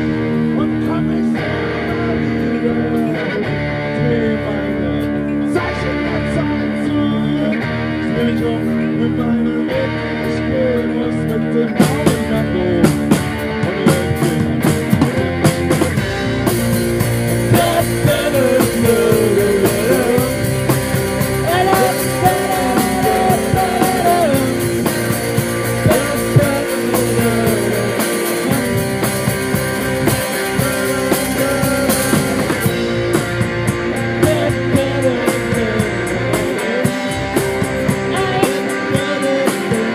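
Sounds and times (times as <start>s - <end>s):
guitar lead melody: 0.0s - 39.9s.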